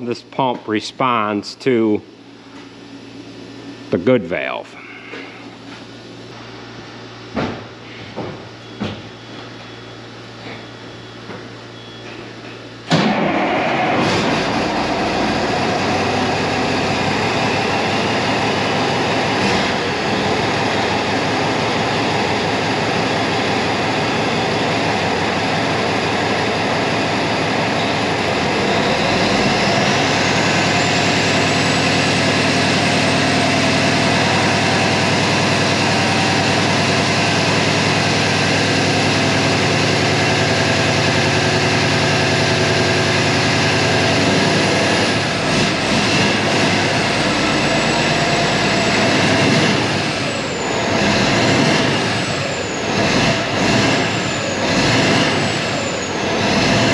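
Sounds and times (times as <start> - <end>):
diesel truck engine running: 0.0 - 56.9.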